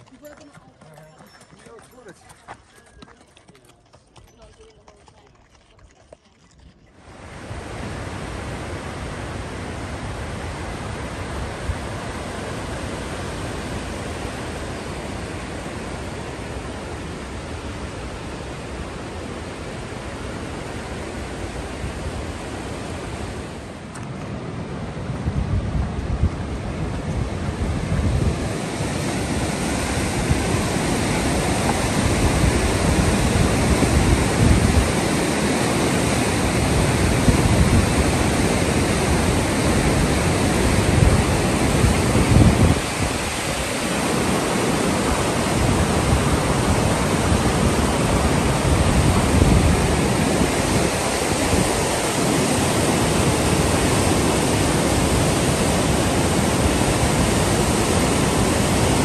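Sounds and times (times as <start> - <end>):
wind buffeting the microphone: 6.6 - 59.0
river rushing through rapids: 7.0 - 59.0.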